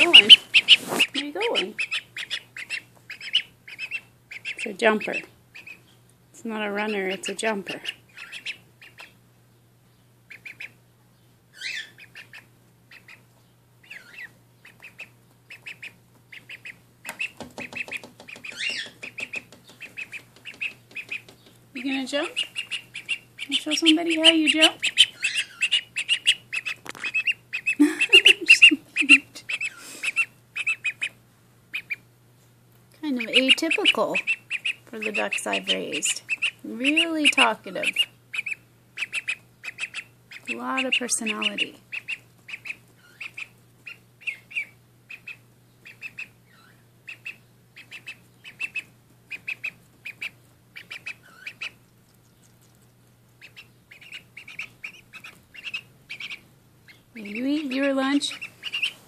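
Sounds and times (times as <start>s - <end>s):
duckling peeping: 0.0s - 32.2s, 32.9s - 59.0s.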